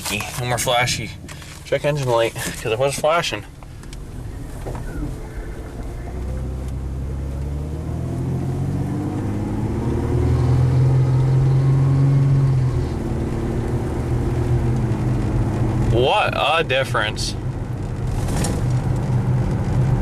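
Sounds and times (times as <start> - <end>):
truck engine driving: 0.0 - 20.0.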